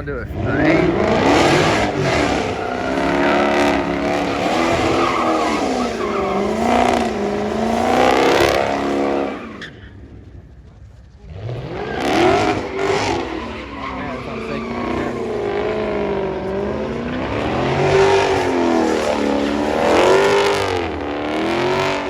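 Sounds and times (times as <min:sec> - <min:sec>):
car engine revving: 0:00.0 - 0:22.0
tyres squealing: 0:00.3 - 0:10.5, 0:11.4 - 0:20.8.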